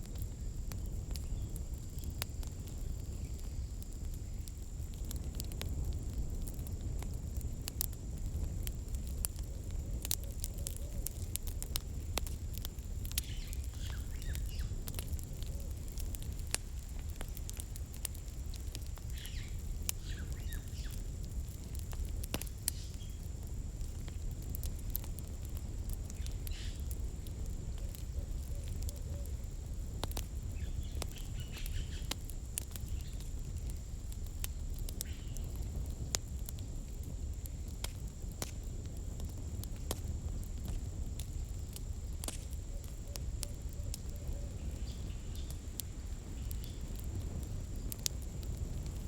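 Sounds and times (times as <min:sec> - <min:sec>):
campfire crackling: 0:00.0 - 0:49.0
low rumble of flames: 0:00.0 - 0:49.0.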